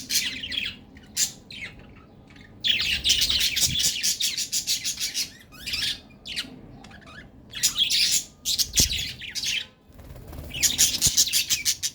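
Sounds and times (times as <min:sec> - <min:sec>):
budgerigars chattering and chirping: 0:00.0 - 0:11.9.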